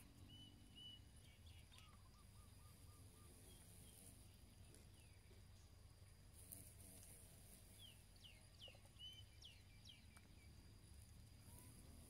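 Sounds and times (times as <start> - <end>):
faint high insect buzz: 0.0 - 12.0.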